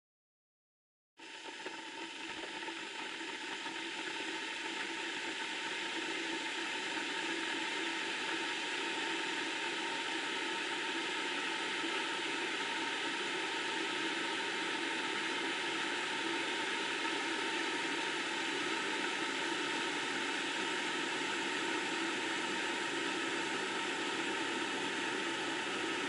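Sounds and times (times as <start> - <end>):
kettle heating water: 1.2 - 26.0.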